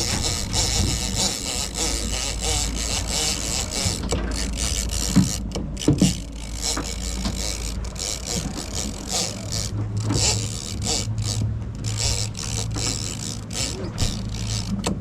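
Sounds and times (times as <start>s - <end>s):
boat engine humming: 0.0s - 15.0s
scratchy rasping mechanical noise: 0.0s - 15.0s.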